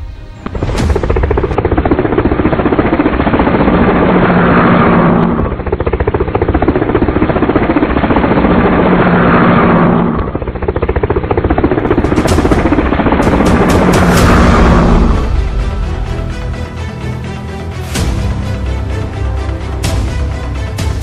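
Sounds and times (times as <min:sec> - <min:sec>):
aircraft engine chopping drone: 0:00.0 - 0:21.0.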